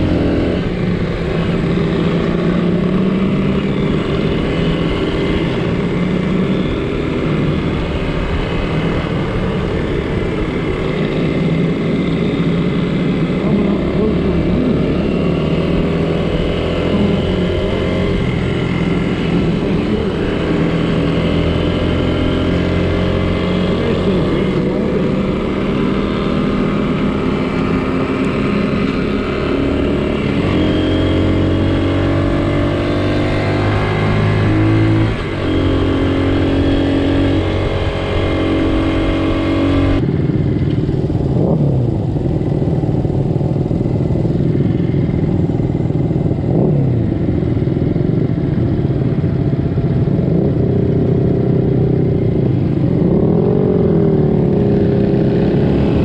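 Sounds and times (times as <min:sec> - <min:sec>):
motorcycle engine changing gears: 0:00.0 - 0:56.0
rough noisy engine: 0:00.0 - 0:56.0.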